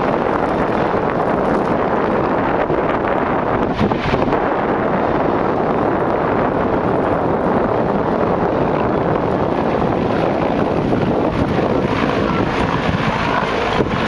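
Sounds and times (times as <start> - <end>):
helicopter rotor and engine: 0.0 - 14.0
wind buffeting microphone: 0.0 - 14.0.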